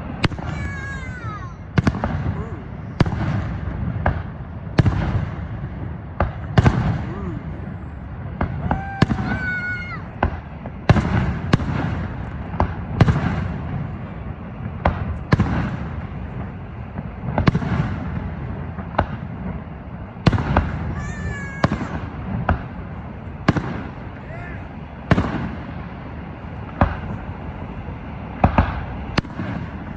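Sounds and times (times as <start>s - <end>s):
fireworks bangs: 0.0s - 29.9s
fireworks whistling: 0.0s - 29.9s.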